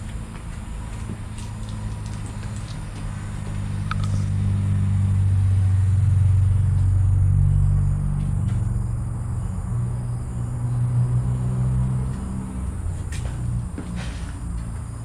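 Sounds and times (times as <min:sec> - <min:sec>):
low droning rumble: 0:00.0 - 0:15.0.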